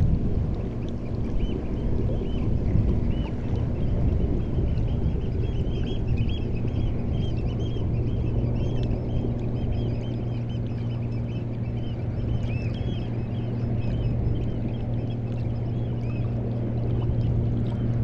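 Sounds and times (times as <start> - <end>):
sea water along shore: 0.0 - 18.0
steady low hum: 0.0 - 18.0.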